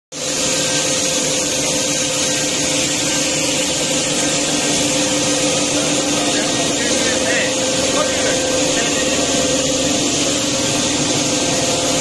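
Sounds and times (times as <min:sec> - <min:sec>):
pipe threading machine humming: 0:00.1 - 0:12.0
high hiss: 0:00.2 - 0:12.0.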